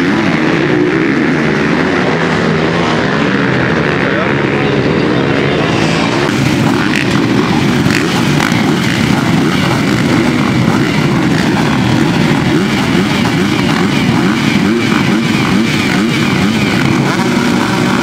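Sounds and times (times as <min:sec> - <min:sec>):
motocross bike engines droning: 0:00.0 - 0:18.0.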